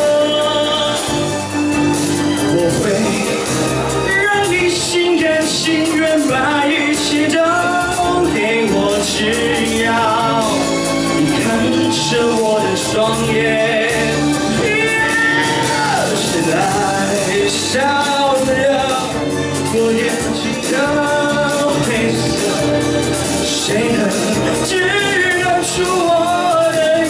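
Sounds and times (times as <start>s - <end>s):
man singing into a microphone: 0.0s - 1.4s, 2.4s - 27.0s
recorded backing track: 0.0s - 27.0s.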